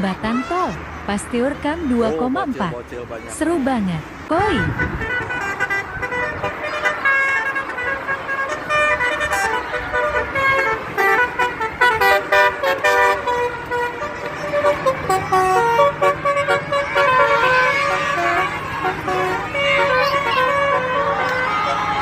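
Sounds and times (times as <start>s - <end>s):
low traffic drone: 0.0s - 22.0s
musical bus air horn: 4.4s - 22.0s.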